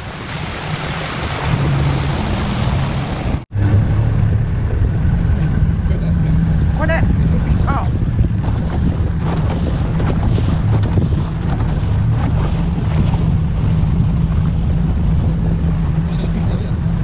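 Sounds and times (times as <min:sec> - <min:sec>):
water rushing past hull: 0:00.0 - 0:17.0
wind buffeting microphone: 0:00.0 - 0:17.0
outboard motor running: 0:01.4 - 0:17.0.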